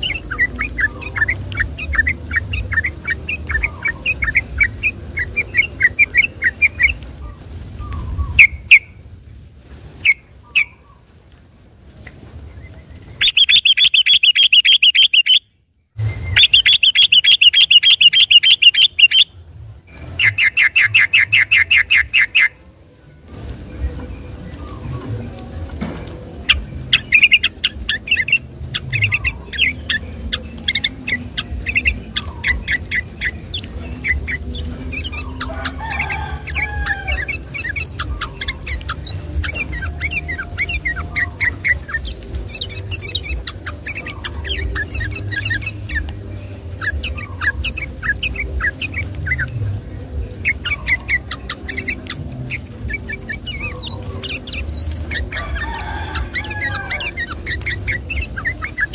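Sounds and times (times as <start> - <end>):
bulbul chattering song: 0.0 - 11.4, 12.0 - 58.9.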